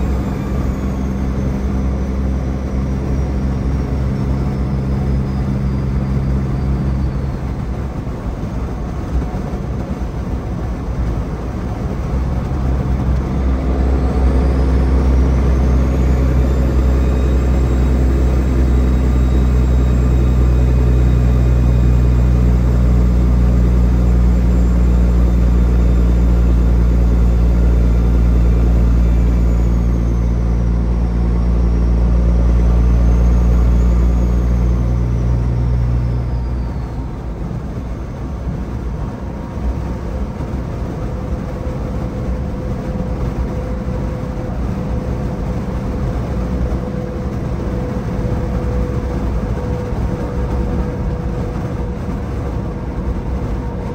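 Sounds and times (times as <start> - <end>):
truck diesel engine running: 0.0 - 53.9.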